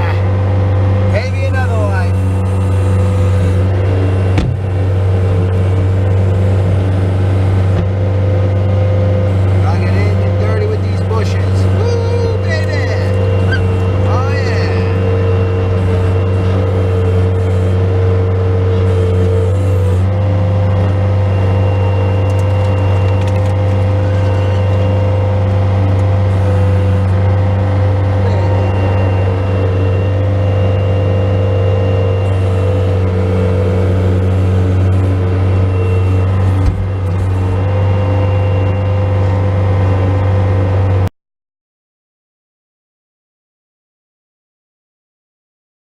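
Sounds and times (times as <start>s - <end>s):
diesel engine running: 0.0s - 41.1s
engine whine: 0.0s - 41.1s.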